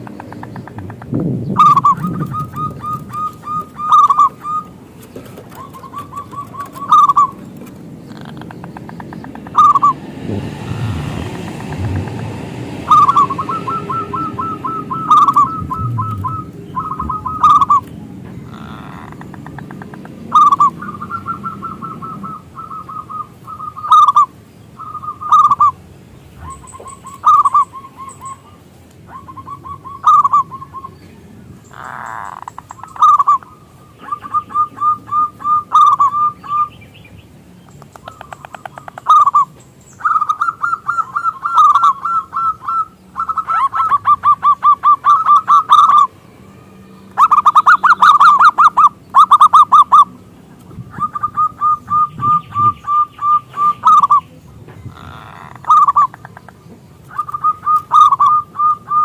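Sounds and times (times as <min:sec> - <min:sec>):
dove cooing with trills: 0:00.0 - 0:25.8, 0:26.4 - 0:36.8, 0:37.9 - 0:46.2, 0:47.1 - 0:59.0.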